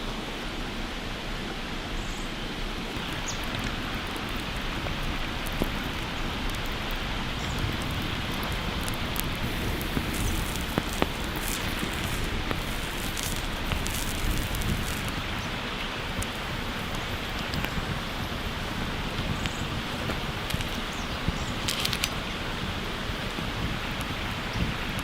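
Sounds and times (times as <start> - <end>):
campfire crackling and popping: 2.5 - 25.0.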